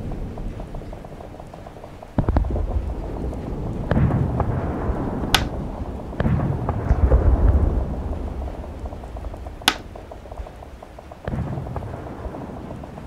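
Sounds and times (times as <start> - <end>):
rain-like patter and hiss: 0.0 - 13.0.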